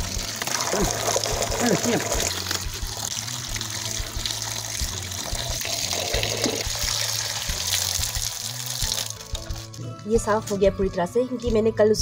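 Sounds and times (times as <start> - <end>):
tap water running and splashing: 0.0 - 9.8.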